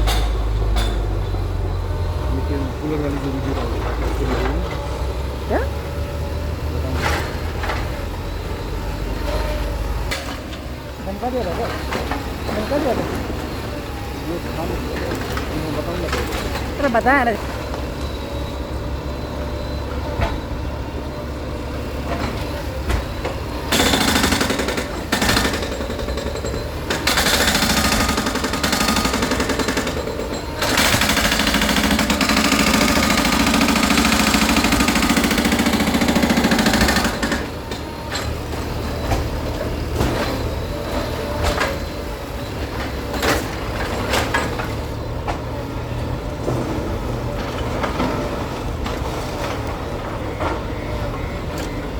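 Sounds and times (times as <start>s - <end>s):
diesel earthmoving machinery: 0.0s - 51.9s.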